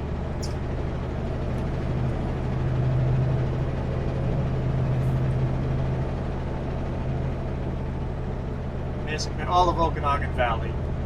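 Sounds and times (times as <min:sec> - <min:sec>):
road and tyre noise: 0:00.0 - 0:11.0
truck diesel engine droning: 0:00.0 - 0:11.0.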